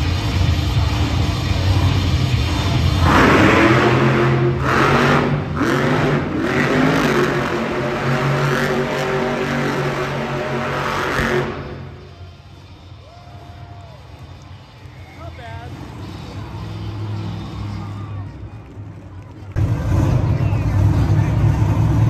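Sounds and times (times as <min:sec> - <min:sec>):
monster truck engine revving: 0:00.0 - 0:13.4, 0:14.0 - 0:22.0.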